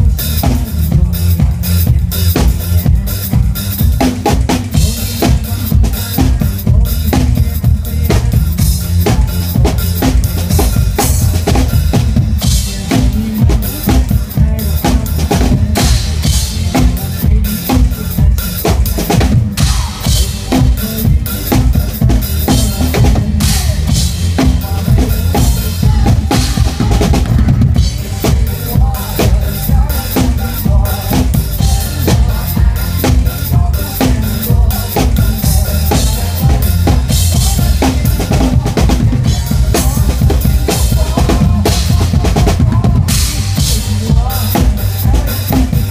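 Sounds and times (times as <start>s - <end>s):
backing pop music: 0.0s - 45.9s
drum kit playing: 0.0s - 45.9s.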